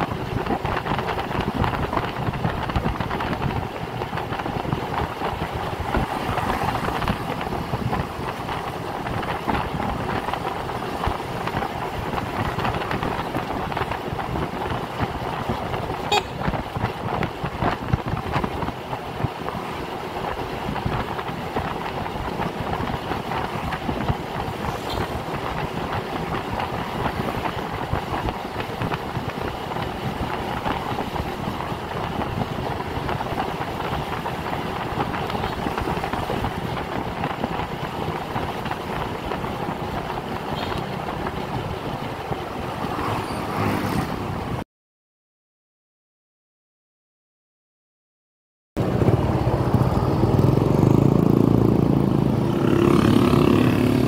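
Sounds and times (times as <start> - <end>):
scooter engine and road noise: 0.0 - 44.6, 48.8 - 54.0
wind buffeting microphone: 0.0 - 44.6.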